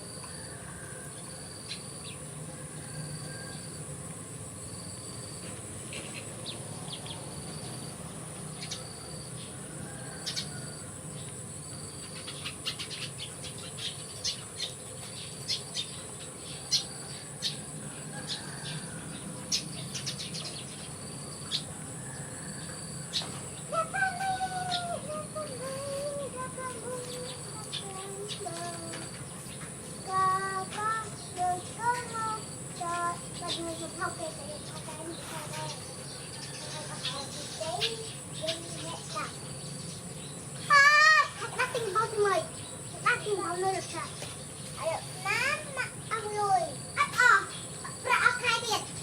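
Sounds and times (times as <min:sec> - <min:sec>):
high insect drone: 0:00.0 - 0:49.0.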